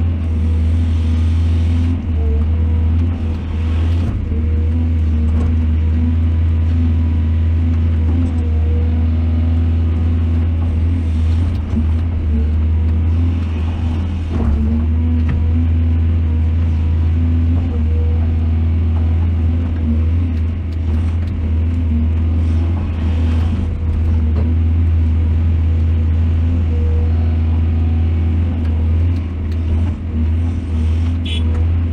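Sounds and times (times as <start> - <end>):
heavy diesel engine rumbling: 0.0 - 31.9.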